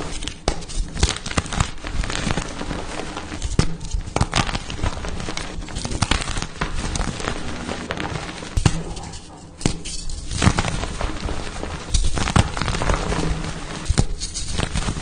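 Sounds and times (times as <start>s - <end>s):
chalk crunching and crumbling: 0.0s - 15.0s.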